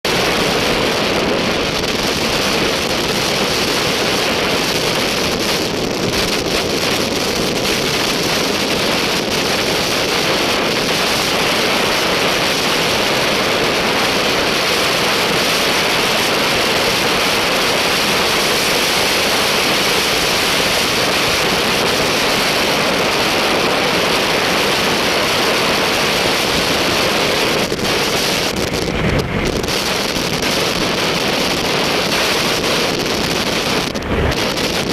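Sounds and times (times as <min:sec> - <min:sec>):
heavy vehicle running: 0:00.0 - 0:34.9
wind on microphone: 0:00.0 - 0:34.9.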